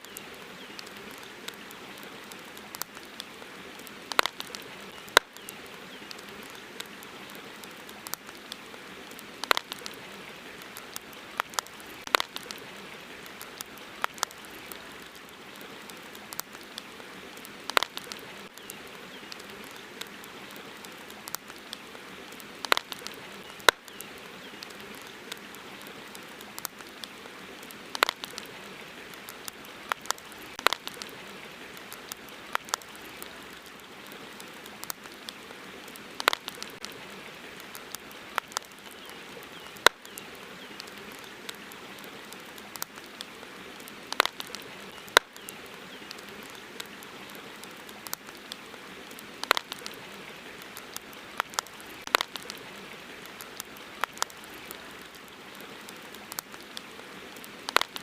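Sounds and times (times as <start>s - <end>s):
campfire crackling and popping: 0.0s - 58.0s
river water hissing: 0.0s - 58.0s.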